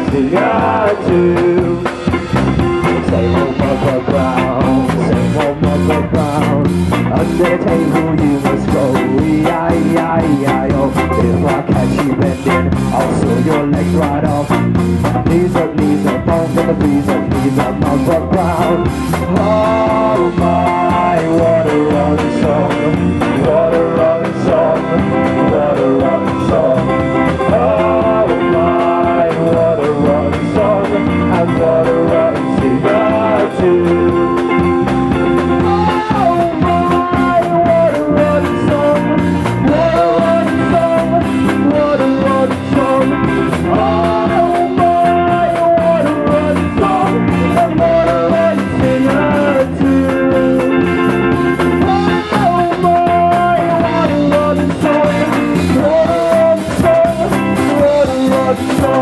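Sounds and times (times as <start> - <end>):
person singing: 0.0 - 2.2, 2.8 - 34.7, 35.3 - 59.0
rock band playing: 0.0 - 59.0.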